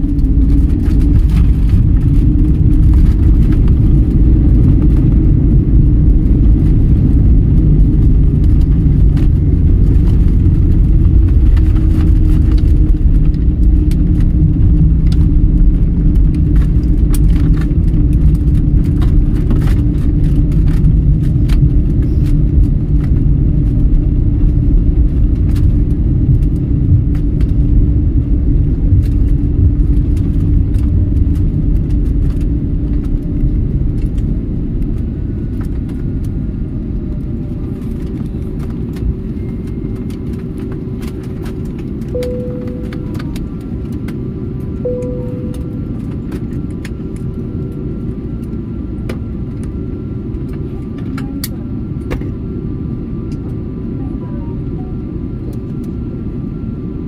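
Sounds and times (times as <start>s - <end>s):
low hum: 0.0s - 50.5s
airliner engine and runway rumble: 0.0s - 57.0s.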